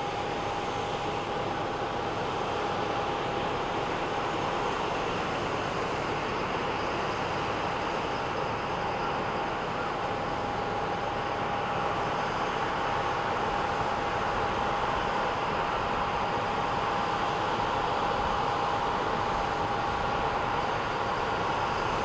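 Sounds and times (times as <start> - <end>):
constant whine: 0.0 - 22.0.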